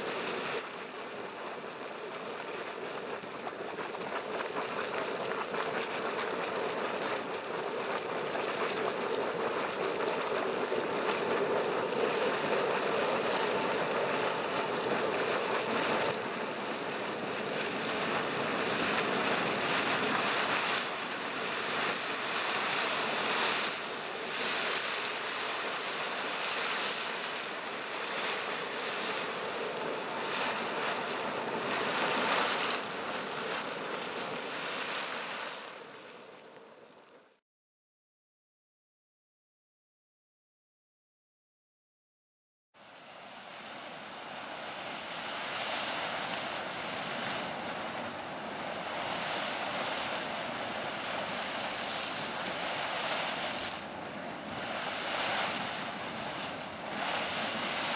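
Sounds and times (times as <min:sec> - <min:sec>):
boiling water churning and splashing: 0:00.0 - 0:37.4, 0:42.8 - 0:57.9.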